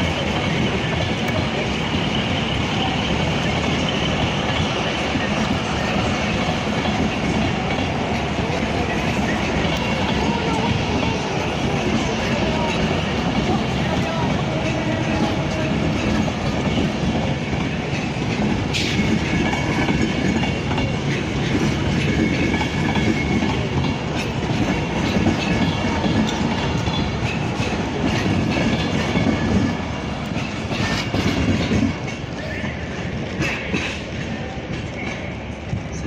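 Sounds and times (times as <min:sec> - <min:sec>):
electric train rolling past: 0:00.0 - 0:36.0
wheels clicking over rail joints: 0:00.0 - 0:36.0.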